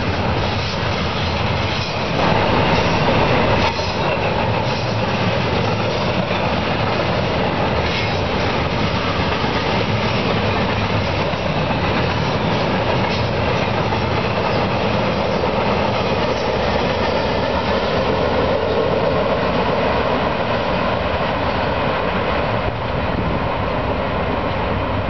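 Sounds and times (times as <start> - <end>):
steel wheels on rail: 0.0 - 25.0.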